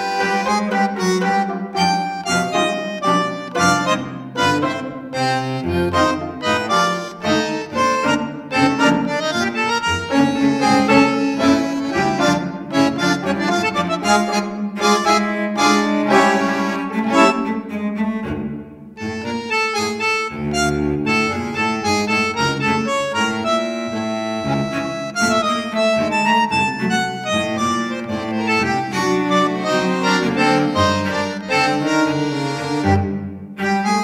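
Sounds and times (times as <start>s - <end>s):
instrumental background music: 0.0s - 34.0s.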